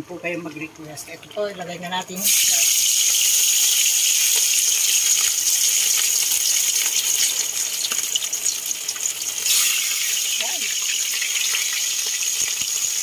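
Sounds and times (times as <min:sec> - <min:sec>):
fish sizzling in hot oil: 0:01.2 - 0:13.0.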